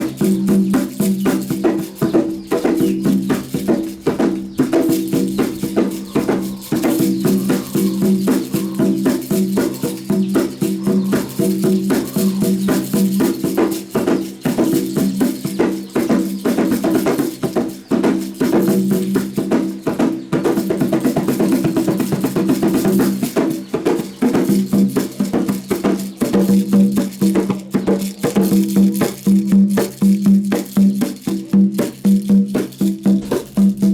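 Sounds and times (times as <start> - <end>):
small drum played fast: 0.0 - 33.9.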